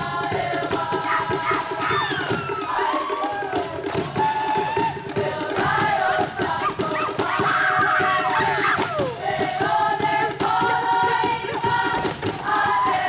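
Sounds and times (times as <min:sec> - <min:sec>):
girls singing in harmony: 0:00.0 - 0:13.0
steady drum beats: 0:00.0 - 0:13.0.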